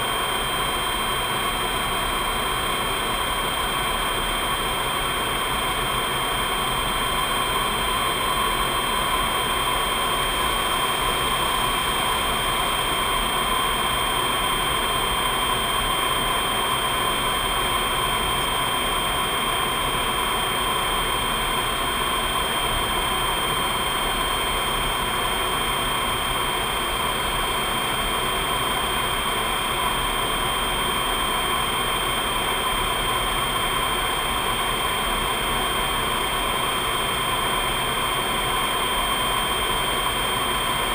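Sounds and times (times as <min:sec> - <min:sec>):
steady high whine: 0:00.0 - 0:40.9.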